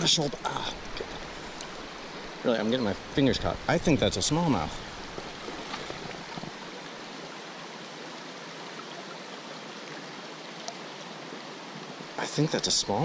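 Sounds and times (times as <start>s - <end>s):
creek running over rocks: 0.0s - 13.0s.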